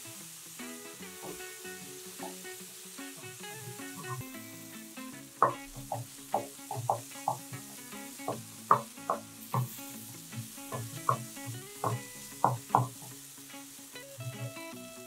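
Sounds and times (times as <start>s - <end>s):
paste sizzling: 0.0s - 15.0s.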